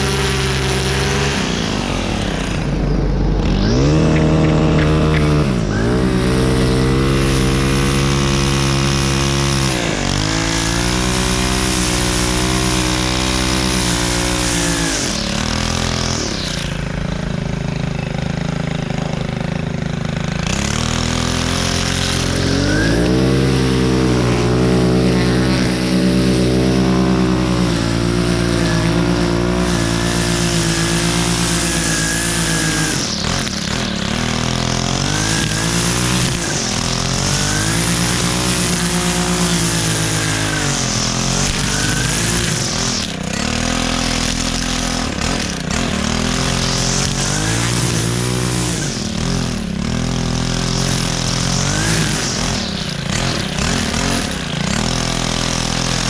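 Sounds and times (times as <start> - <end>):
string trimmer engine revving: 0.0 - 56.0.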